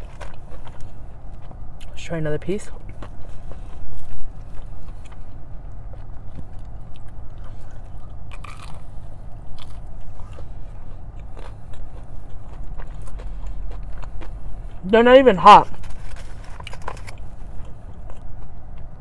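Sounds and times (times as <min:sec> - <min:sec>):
biting and chewing fried chicken: 0:00.0 - 0:19.0
steady low hum: 0:00.0 - 0:19.0.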